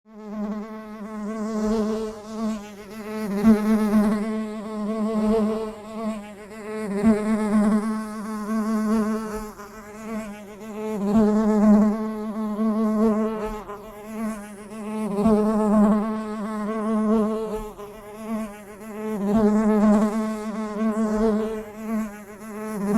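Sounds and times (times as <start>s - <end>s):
bee buzzing in flight: 0.1s - 22.9s.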